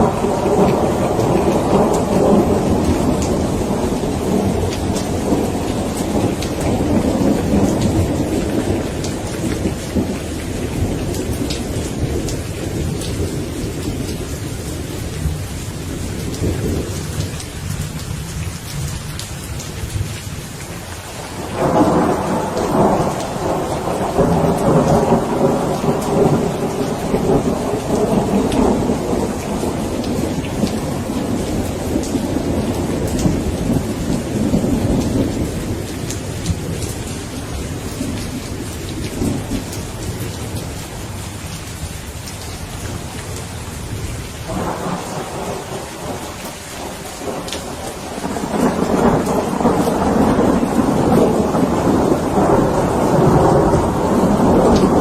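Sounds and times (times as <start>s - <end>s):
rolling thunder: 0.0s - 17.8s, 21.3s - 41.3s, 42.2s - 55.0s
steady rain: 0.0s - 55.0s.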